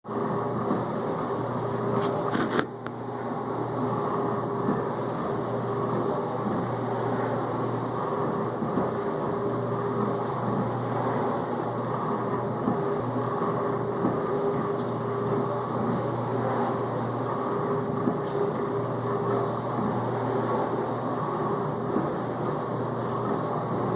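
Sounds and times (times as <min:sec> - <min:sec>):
dishwasher pump humming: 0:00.1 - 0:23.9.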